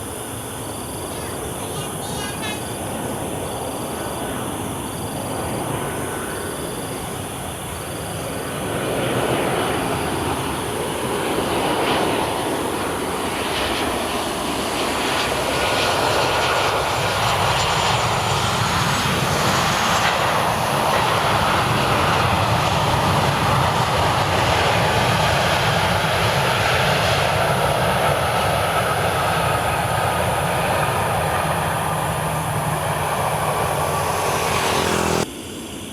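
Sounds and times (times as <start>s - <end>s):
faint engine whine: 0.0s - 35.9s
jet engines roaring: 0.0s - 35.9s.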